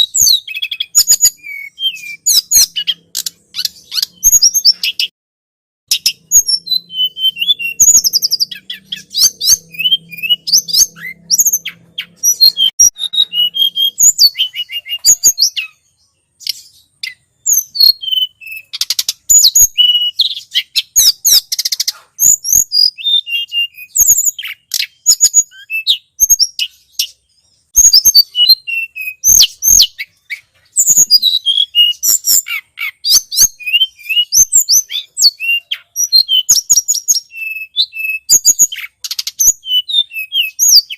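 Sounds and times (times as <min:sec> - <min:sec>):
bird chirping and twittering: 0:00.0 - 0:05.1, 0:05.9 - 0:40.9.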